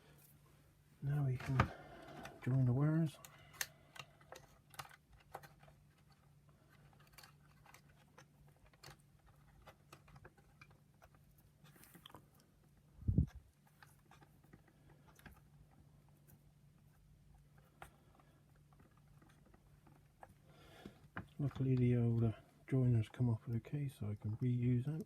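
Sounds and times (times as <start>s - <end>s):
low steady hum: 0.0s - 25.0s
clicks and rustles of wires: 1.0s - 25.0s.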